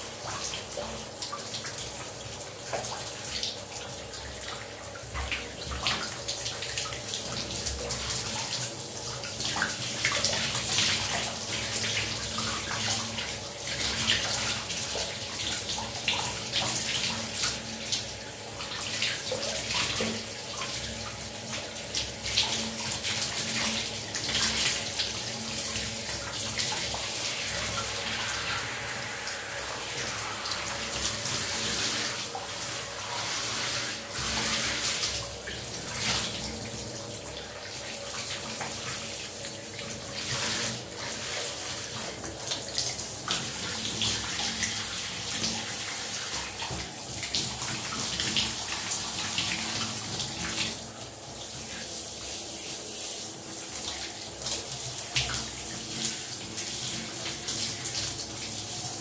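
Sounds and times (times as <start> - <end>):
faint steady hum: 0.0 - 51.9
shower water splashing: 0.0 - 59.0.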